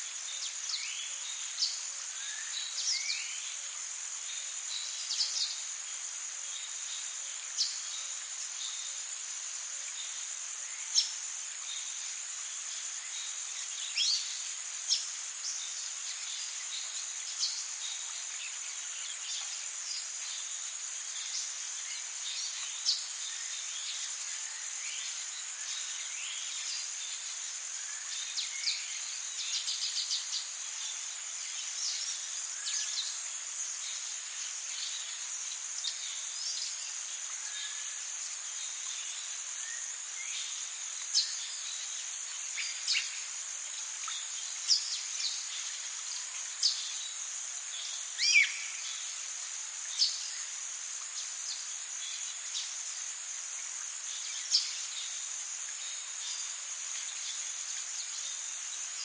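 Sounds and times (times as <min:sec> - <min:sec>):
even hiss: 0:00.0 - 0:59.0
high insect drone: 0:00.0 - 0:59.0.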